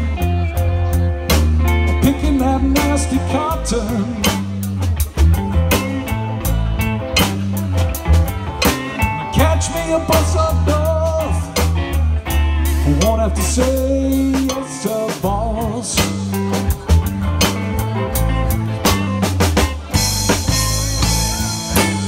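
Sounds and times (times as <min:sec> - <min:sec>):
blues band playing: 0:00.0 - 0:22.0
drum kit: 0:00.0 - 0:22.0
electric guitars: 0:00.0 - 0:22.0
low bass line: 0:00.0 - 0:22.0.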